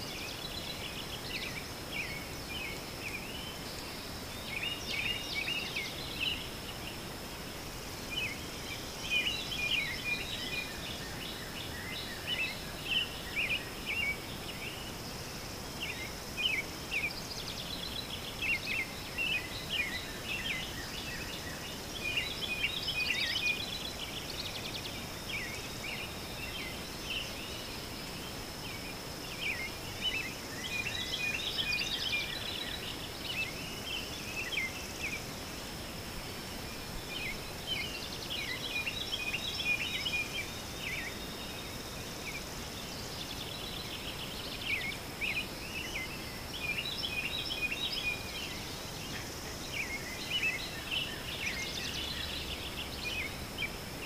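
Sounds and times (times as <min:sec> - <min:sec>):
birds chirping and twittering: 0:00.0 - 0:54.0
steady hiss: 0:00.0 - 0:54.0.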